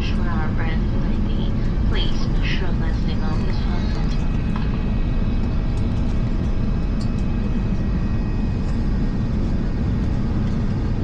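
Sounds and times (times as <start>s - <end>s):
jet engine and airflow rumble: 0.0s - 11.0s.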